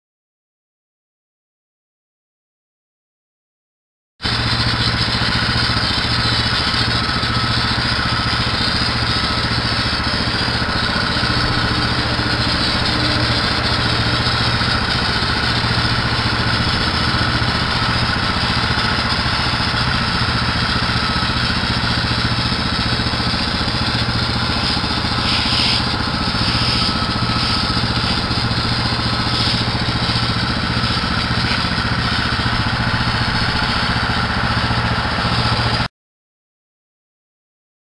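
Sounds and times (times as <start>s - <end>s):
small petrol engine running: 4.2s - 35.9s.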